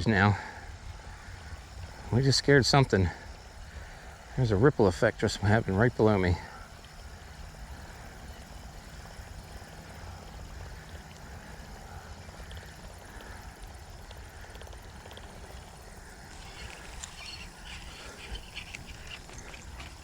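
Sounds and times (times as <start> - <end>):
animal clicky calls: 1.0 - 20.0.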